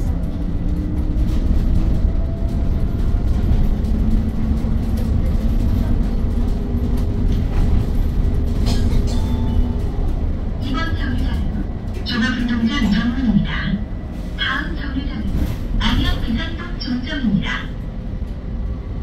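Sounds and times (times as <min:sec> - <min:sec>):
bus road and drivetrain rumble: 0:00.0 - 0:19.0.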